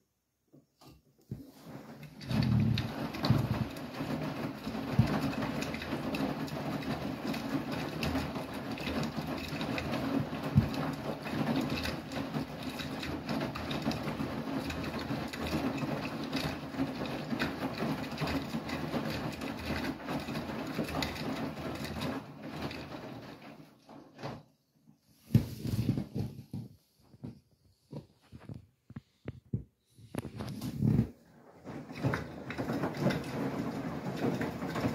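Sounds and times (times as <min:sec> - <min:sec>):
washing machine sloshing: 0:01.3 - 0:26.6, 0:30.0 - 0:34.9
washing machine motor hum: 0:01.3 - 0:28.6, 0:29.2 - 0:34.9.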